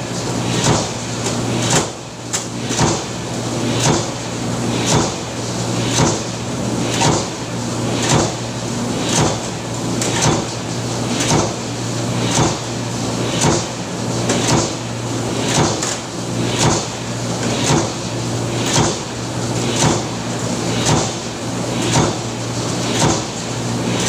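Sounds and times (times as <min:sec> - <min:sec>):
press machine stamping: 0:00.6 - 0:08.4, 0:09.0 - 0:24.0.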